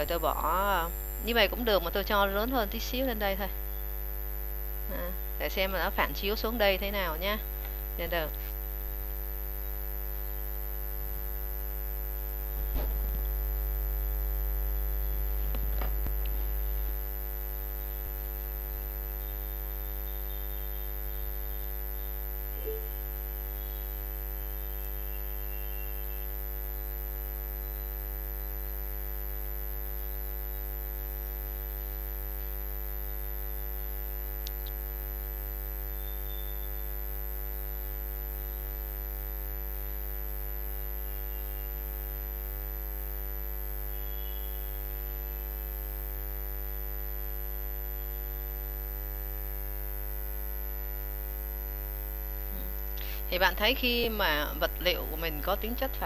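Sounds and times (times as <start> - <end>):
electrical mains hum: 0.0 - 56.0.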